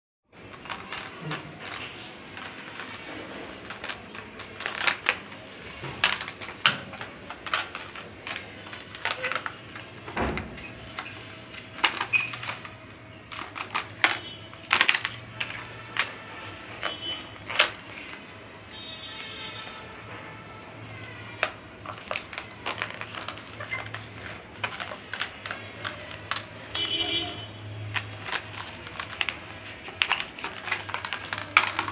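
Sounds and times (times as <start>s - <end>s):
plastic cup clattering on tile: 0.5s - 18.2s, 21.0s - 31.9s.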